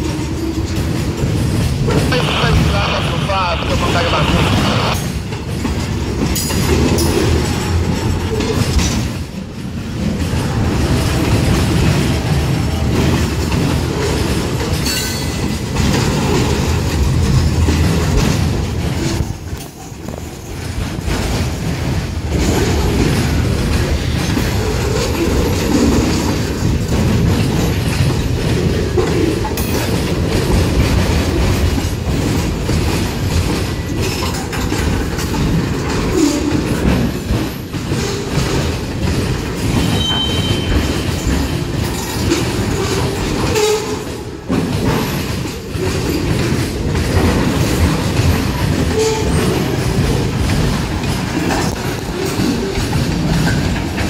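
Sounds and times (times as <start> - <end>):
freight train wheels clickety-clack: 0.0 - 54.0.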